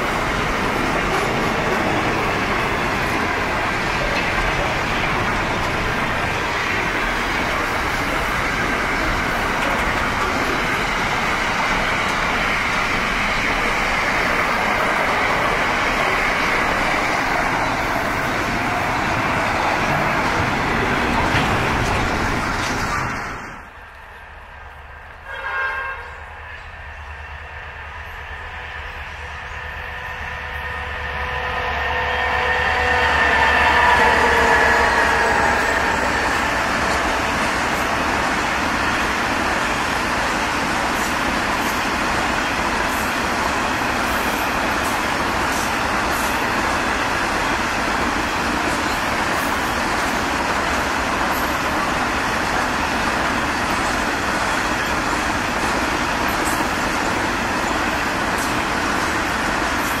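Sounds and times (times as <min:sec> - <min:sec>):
diesel locomotive engines passing: 0:00.0 - 1:00.0.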